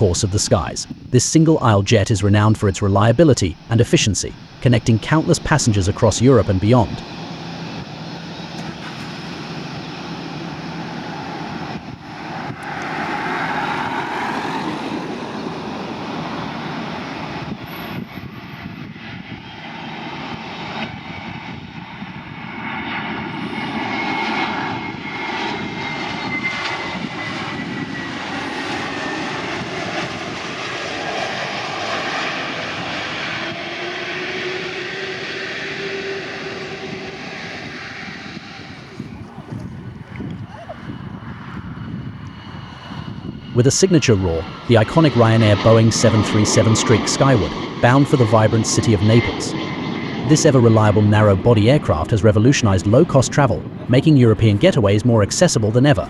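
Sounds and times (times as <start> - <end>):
high engine whine: 0.0 - 56.0
jet engines running: 0.0 - 56.0
low engine tone: 0.0 - 56.0.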